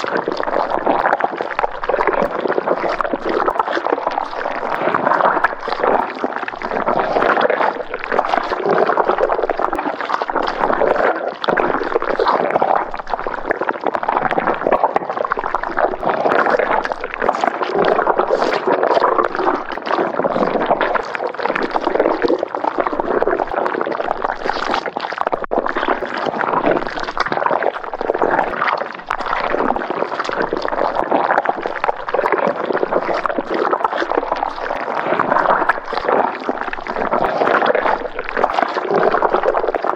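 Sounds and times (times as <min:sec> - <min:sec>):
thick liquid bubbling: 0:00.0 - 0:39.9.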